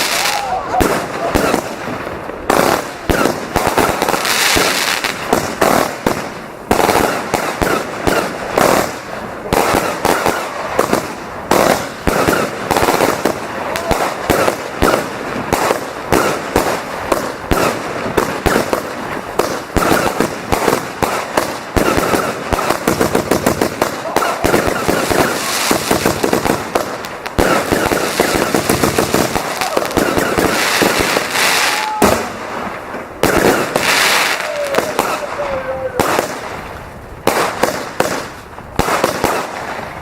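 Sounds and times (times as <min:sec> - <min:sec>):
firework crackling: 0:00.0 - 0:40.0
fireworks banging and popping: 0:00.0 - 0:40.0.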